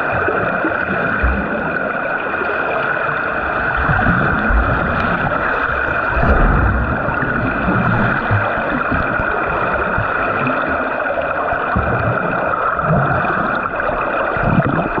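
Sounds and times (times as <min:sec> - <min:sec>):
pool water rushing and sloshing: 0:00.0 - 0:15.0
water splashes: 0:00.0 - 0:15.0.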